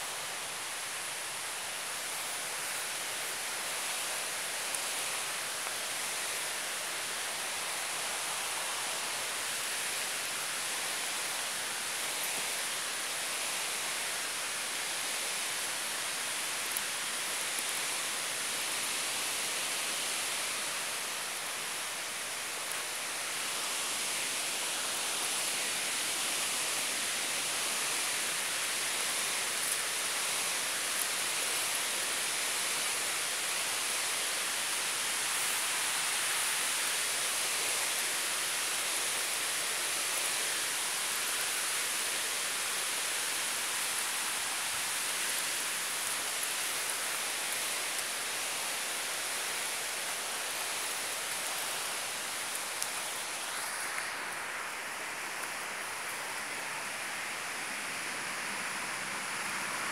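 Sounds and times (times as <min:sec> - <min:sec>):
mountain river rushing: 0:00.0 - 0:59.9.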